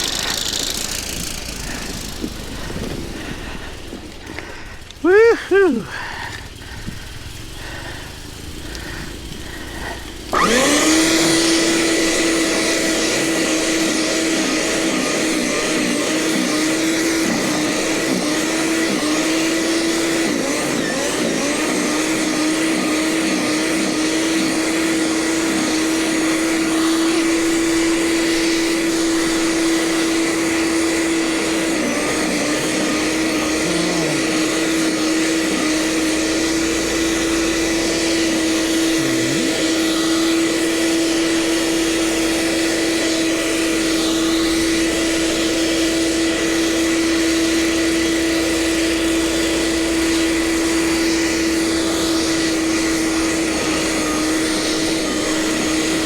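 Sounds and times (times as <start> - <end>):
snow blower running: 0.0 - 56.0.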